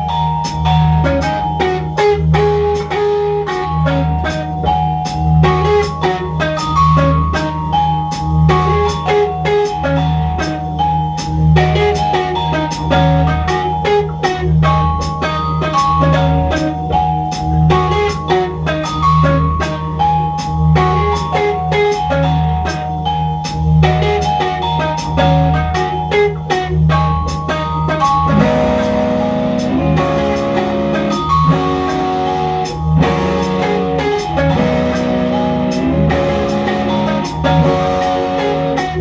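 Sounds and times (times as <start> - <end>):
sharp clicking percussion: 0.0 - 39.0.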